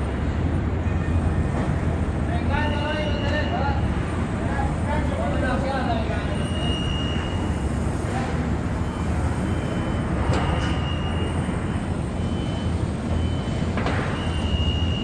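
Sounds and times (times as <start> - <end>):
construction and city rumble: 0.0 - 15.0.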